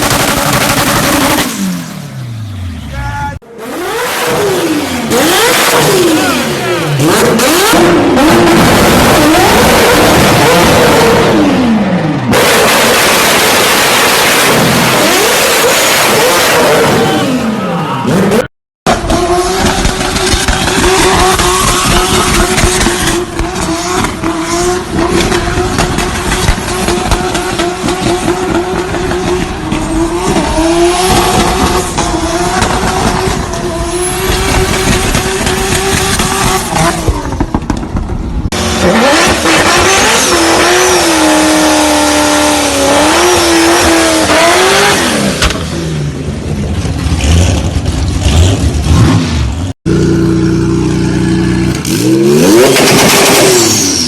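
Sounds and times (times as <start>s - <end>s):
car engine at high revs crackling: 0.0s - 2.8s, 3.6s - 17.3s, 18.1s - 54.0s
car engine revving: 0.0s - 54.0s.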